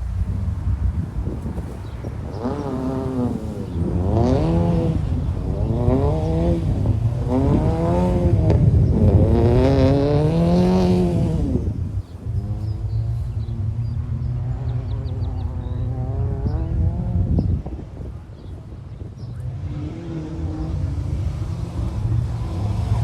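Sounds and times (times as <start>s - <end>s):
car engine revving: 0.0s - 17.5s, 19.3s - 23.0s.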